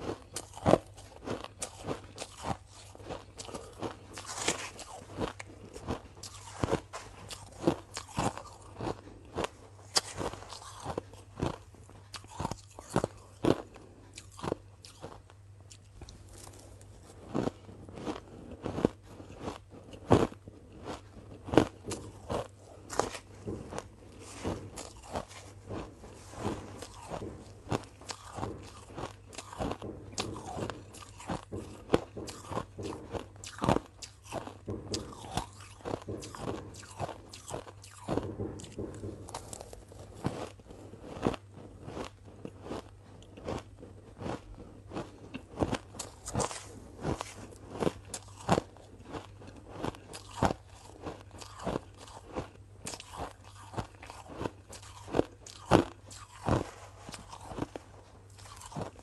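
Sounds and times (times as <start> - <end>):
faint steady hum: 0.0 - 59.0
ice being chewed: 0.0 - 59.0.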